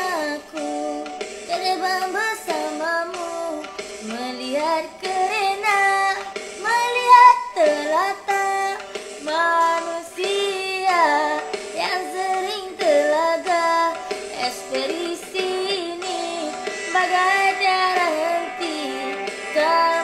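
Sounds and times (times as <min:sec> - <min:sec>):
person singing: 0:00.0 - 0:20.0
pop ballad music: 0:00.0 - 0:20.0.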